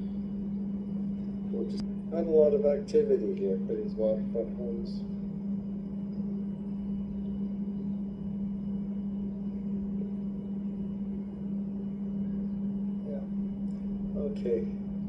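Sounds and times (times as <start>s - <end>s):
low-pitched hum: 0.0s - 15.0s.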